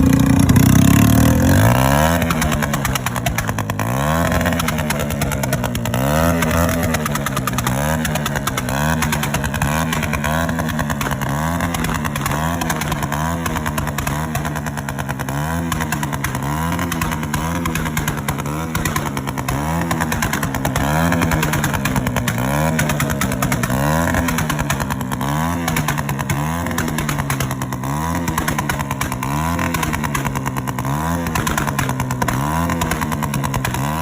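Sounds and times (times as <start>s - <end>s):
exhaust crackling and popping: 0.0s - 34.0s
motorcycle engine revving: 0.0s - 34.0s.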